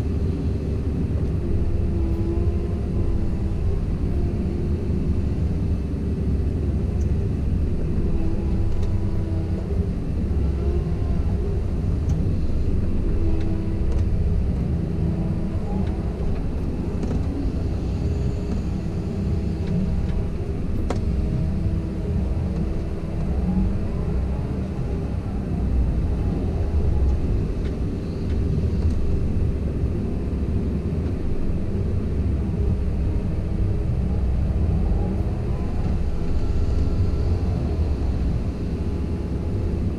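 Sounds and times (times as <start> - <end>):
excavator engine rumbling: 0.0 - 39.9.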